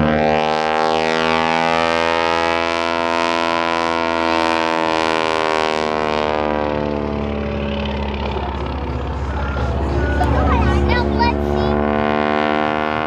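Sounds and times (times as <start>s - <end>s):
propeller plane droning by: 0.0s - 13.0s.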